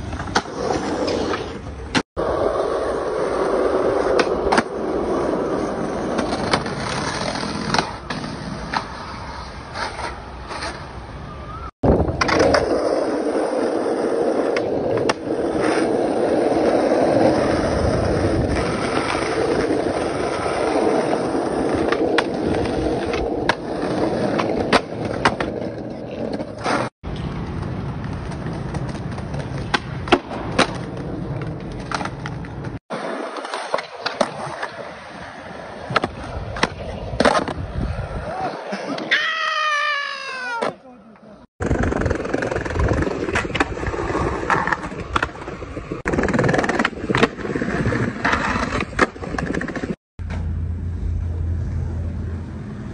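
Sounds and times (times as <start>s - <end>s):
skateboard wheels rolling on concrete: 0.0s - 52.9s.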